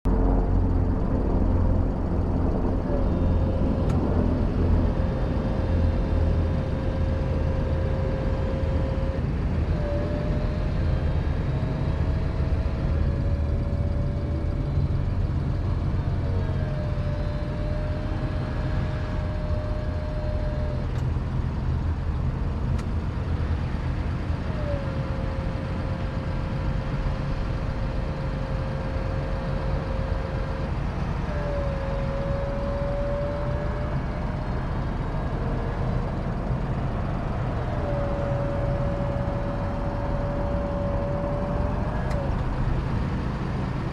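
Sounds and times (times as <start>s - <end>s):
steady low rumble: 0.0s - 43.9s
motor whine: 0.1s - 43.9s.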